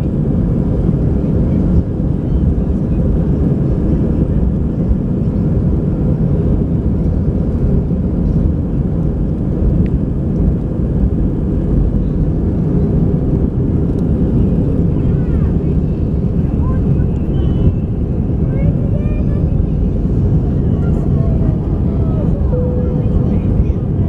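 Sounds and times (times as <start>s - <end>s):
jet engines rumbling in cabin: 0.0s - 24.0s.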